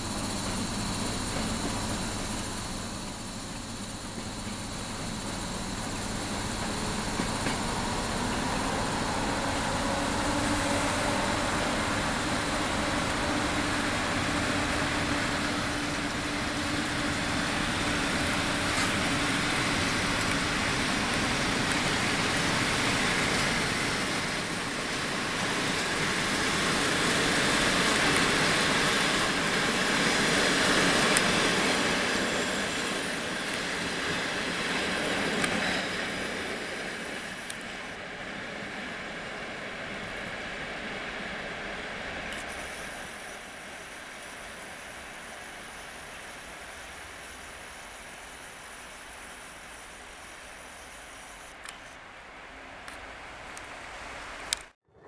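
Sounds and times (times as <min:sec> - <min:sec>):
passing train rumble and hiss: 0:00.0 - 0:54.8.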